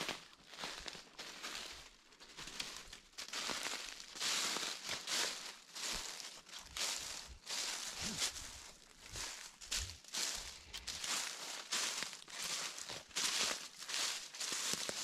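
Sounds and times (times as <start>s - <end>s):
footsteps in leaf litter: 0.0s - 15.0s.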